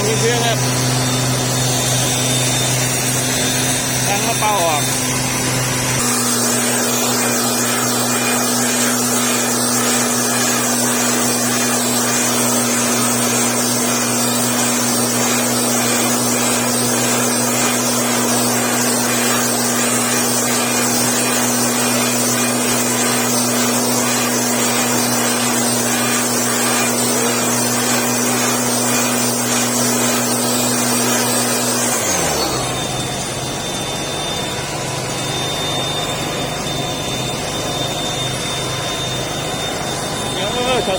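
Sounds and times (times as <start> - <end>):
motorized blower rushing hiss: 0.0 - 40.9.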